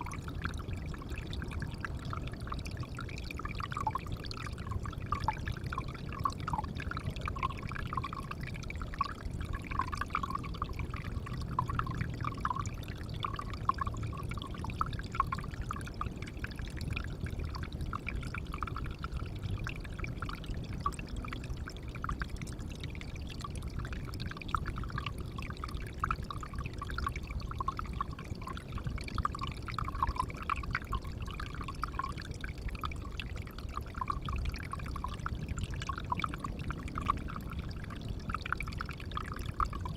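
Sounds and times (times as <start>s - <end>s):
water pouring into a pond: 0.0s - 39.9s.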